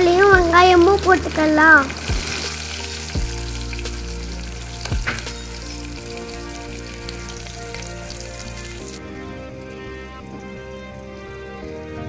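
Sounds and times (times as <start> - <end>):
food sizzling in hot oil: 0.0 - 11.1.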